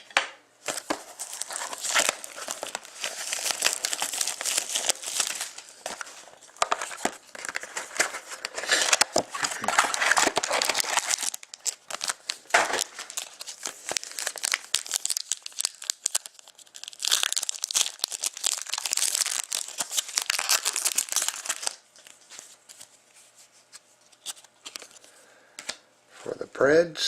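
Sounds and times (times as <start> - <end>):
plastic packaging tearing and crinkling: 0.7 - 22.9.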